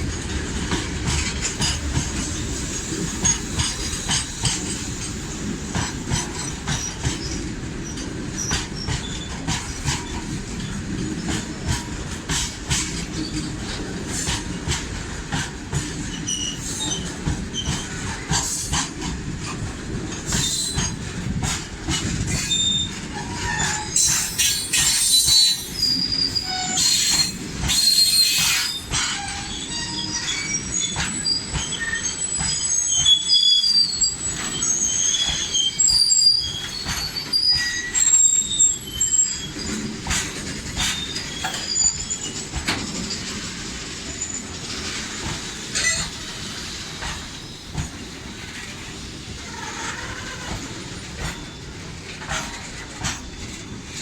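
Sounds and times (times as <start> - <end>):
low train rumble: 0.0 - 54.0
wheels clicking on rails: 0.0 - 54.0
train wheels squealing: 1.2 - 14.5, 15.8 - 54.0.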